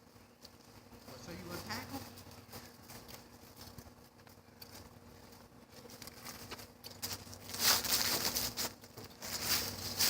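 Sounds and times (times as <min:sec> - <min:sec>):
feet and paws scuffling: 0:00.2 - 0:10.0.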